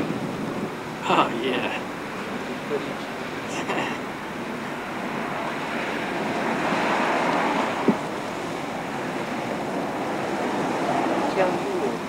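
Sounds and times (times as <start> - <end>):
wind and rain buffeting microphone: 0.0 - 12.0.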